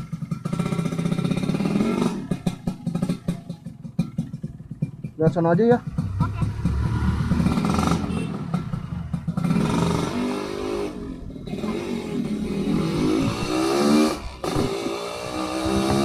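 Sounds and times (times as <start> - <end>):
motorcycle accelerating: 0.0 - 16.0.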